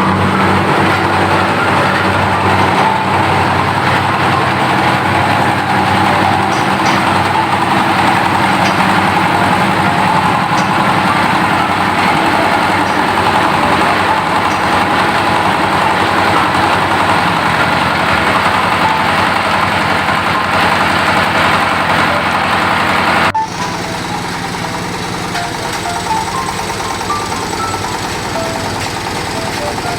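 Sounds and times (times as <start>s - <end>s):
meat grinder droning: 0.0s - 29.9s.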